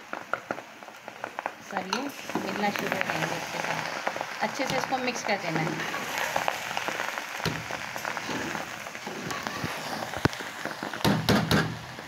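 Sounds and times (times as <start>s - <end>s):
steady crackle: 0.0s - 12.0s
syrup sizzling: 0.0s - 12.0s.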